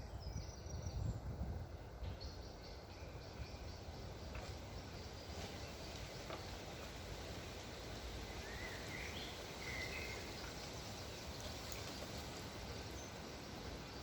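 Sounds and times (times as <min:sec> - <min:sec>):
low rumble of wind: 0:00.0 - 0:14.0.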